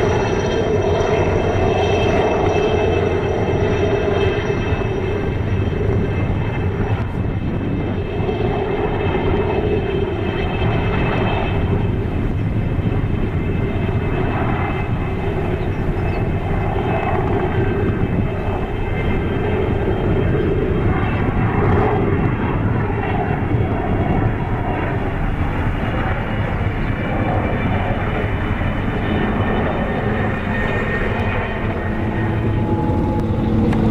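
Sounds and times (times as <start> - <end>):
helicopter rotor noise: 0.0 - 33.9
high turbine engine whine: 0.0 - 33.9.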